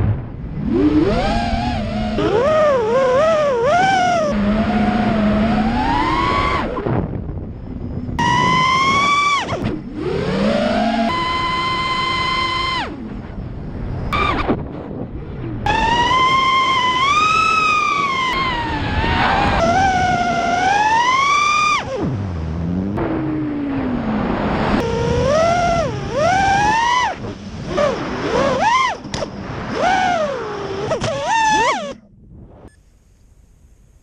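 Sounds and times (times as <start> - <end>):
quadcopter motors whining: 0.5 - 14.6, 15.5 - 32.1.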